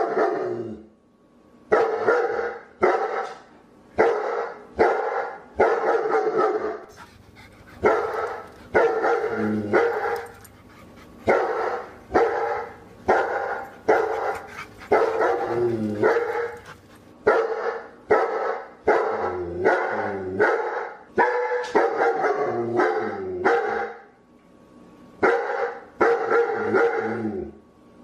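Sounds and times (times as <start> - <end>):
dog barking: 1.7 - 6.8, 7.8 - 10.5, 11.2 - 24.1, 25.2 - 27.2.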